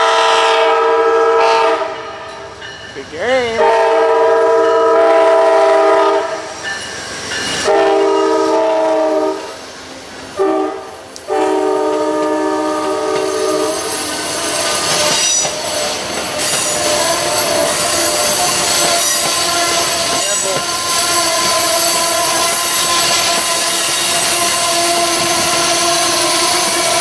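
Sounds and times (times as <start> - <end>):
locomotive air horn blasts: 0.0 - 2.3, 3.6 - 6.4, 7.6 - 9.4, 10.4 - 15.4, 16.8 - 27.0
train rolling past: 0.0 - 27.0.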